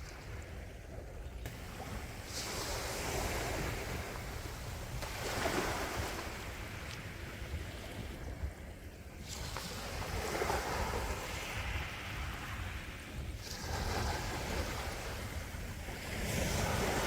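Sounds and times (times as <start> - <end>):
low rumble of wind: 0.0 - 17.0
sea waves washing on shore: 0.0 - 17.0.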